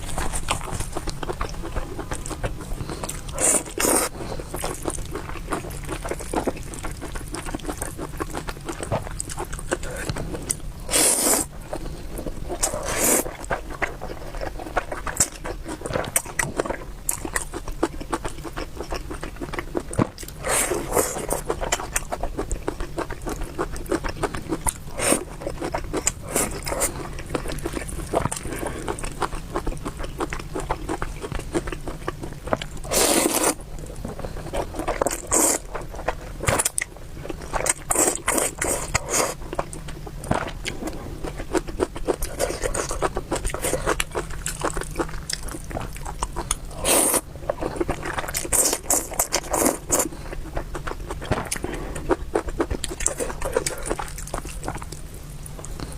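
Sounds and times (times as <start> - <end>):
wet chewing and mouth clicks: 0.0 - 55.9.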